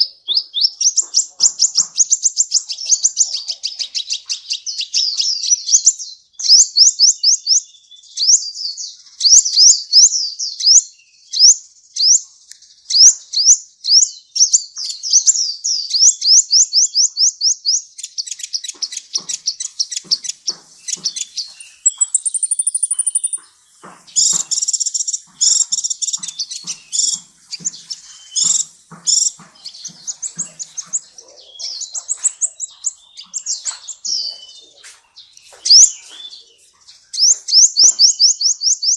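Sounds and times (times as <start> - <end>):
bird chirping song: 0.0 - 38.9
high bird trill: 0.0 - 38.9.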